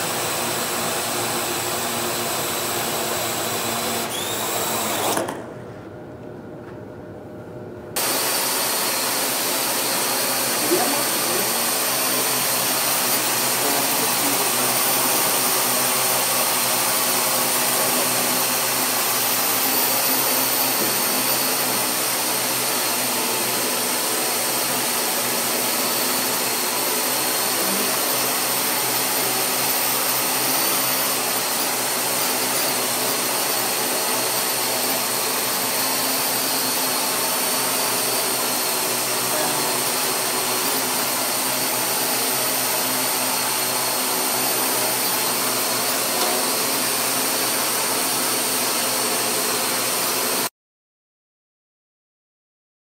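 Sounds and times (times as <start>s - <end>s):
quadcopter propellers whirring: 0.0s - 5.5s, 8.0s - 50.5s.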